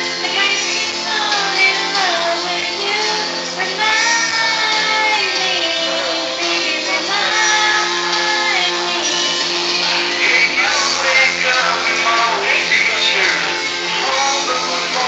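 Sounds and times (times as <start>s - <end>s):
backing track music: 0.0s - 15.0s
person singing into a microphone: 0.0s - 15.0s.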